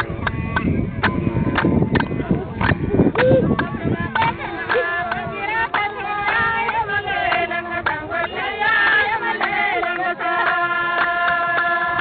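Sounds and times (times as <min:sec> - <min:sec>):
sharp claps: 0:00.0 - 0:12.0
people singing: 0:02.0 - 0:12.0.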